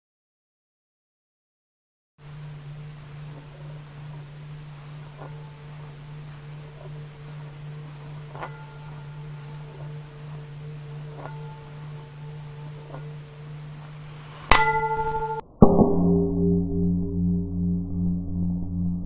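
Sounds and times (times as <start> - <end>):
low singing bowl tone: 2.2 - 19.0
high singing bowl struck: 2.7 - 19.0.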